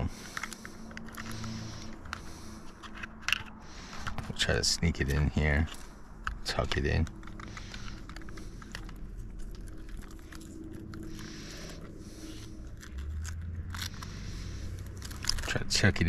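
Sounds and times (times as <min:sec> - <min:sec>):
battery pack scraping and rustling: 0:00.0 - 0:16.0.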